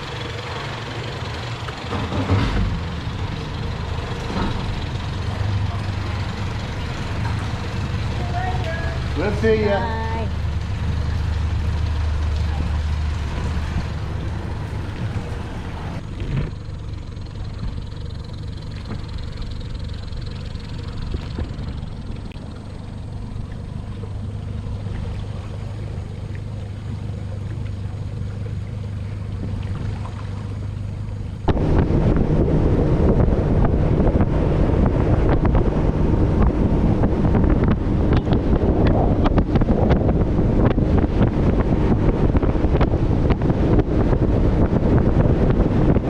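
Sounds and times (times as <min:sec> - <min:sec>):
engine humming: 0:00.0 - 0:46.0
wind on microphone: 0:04.2 - 0:16.7, 0:18.8 - 0:46.0.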